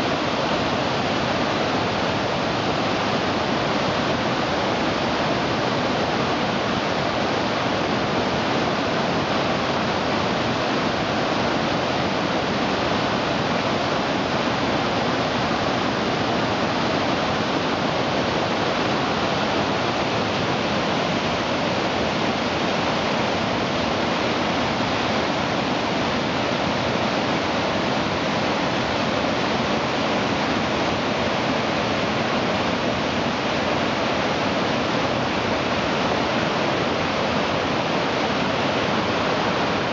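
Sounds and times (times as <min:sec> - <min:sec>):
white-water creek rushing: 0:00.0 - 0:39.9.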